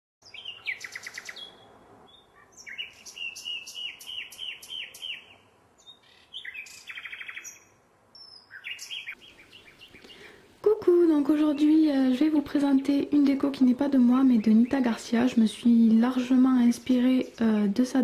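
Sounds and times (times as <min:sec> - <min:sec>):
bird chirping and trilling: 0:00.2 - 0:10.4, 0:11.4 - 0:17.4.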